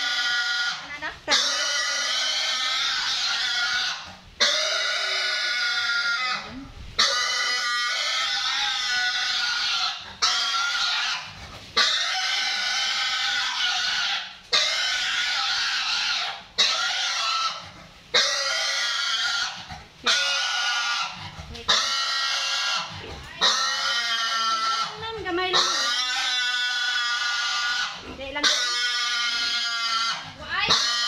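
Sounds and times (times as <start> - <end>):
piglet squealing: 0.0 - 31.0.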